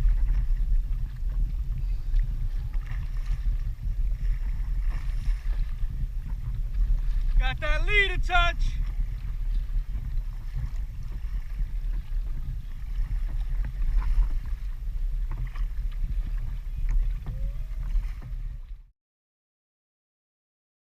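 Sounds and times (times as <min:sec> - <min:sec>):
wind on microphone: 0:00.0 - 0:18.9.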